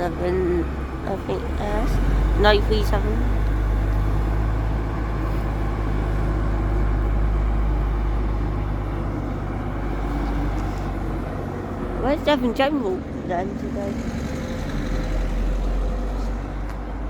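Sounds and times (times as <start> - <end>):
diesel bus engines idling: 0.0 - 17.0.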